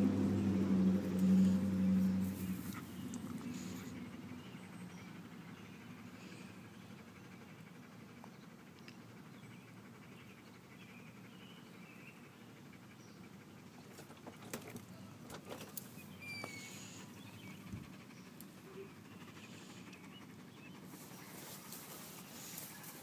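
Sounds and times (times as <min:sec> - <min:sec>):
low background hum: 0:00.0 - 0:23.0
small birds chirping: 0:00.1 - 0:23.0.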